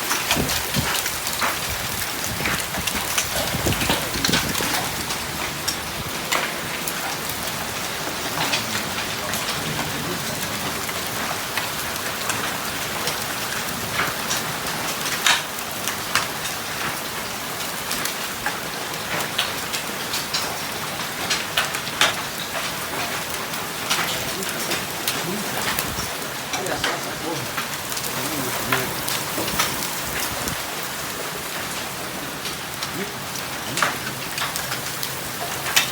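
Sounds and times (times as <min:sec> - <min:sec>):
hailstones striking hard surfaces: 0:00.0 - 0:35.9
heavy rain hissing: 0:00.0 - 0:35.9.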